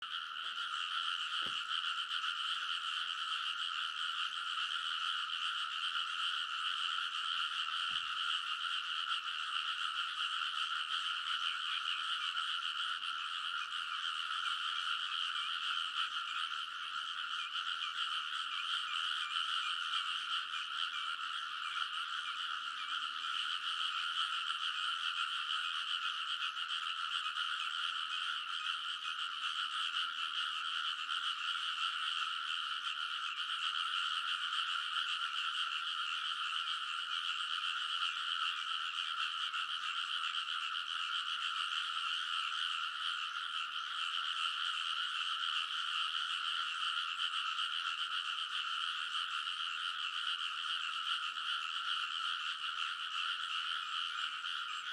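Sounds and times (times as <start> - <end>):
frogs croaking in chorus: 0.0 - 54.9.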